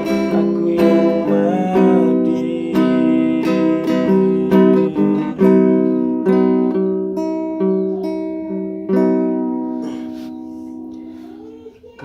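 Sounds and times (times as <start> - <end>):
acoustic guitar strummed: 0.0 - 12.0.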